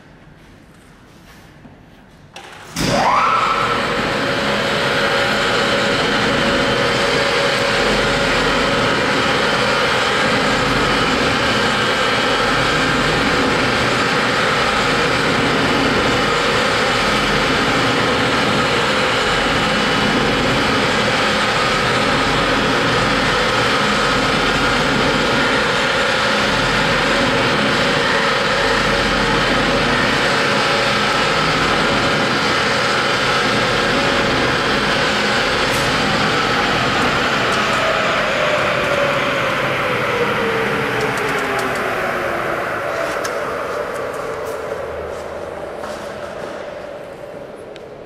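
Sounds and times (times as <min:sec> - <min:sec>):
blender mechanical drone: 0:02.8 - 0:44.4.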